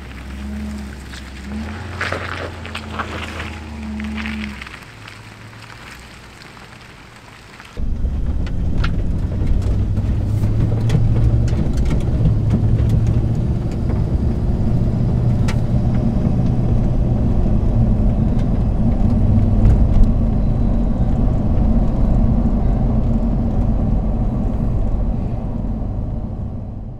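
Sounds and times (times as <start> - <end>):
engine and road rumble: 0.0 - 26.9.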